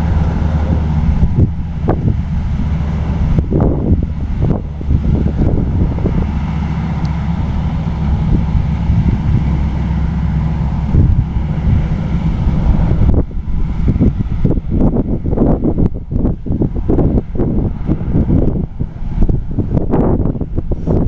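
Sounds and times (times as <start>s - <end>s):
combine harvester running: 0.0s - 21.0s
wind buffeting microphone: 0.0s - 21.0s.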